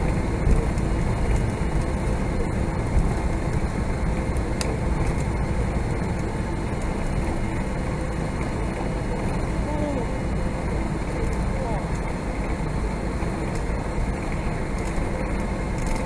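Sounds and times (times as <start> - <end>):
low rumble inside aircraft cabin: 0.0 - 16.0.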